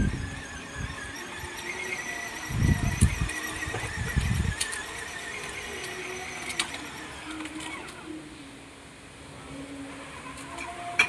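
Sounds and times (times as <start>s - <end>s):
electric motor whining: 0.0s - 8.4s, 9.3s - 11.0s.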